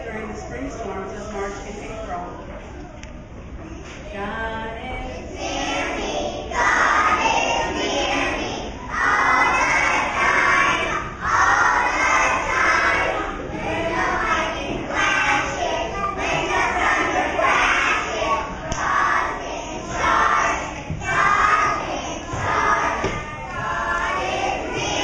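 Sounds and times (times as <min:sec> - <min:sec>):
children singing together: 0:04.9 - 0:25.0.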